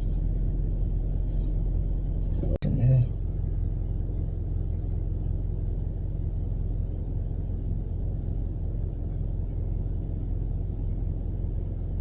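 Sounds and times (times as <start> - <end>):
deep hum: 0.0 - 12.0.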